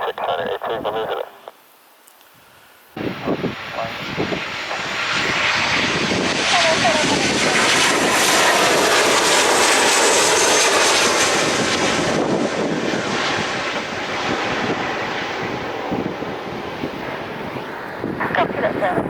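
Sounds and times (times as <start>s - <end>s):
airliner engines rushing past: 3.0s - 19.0s.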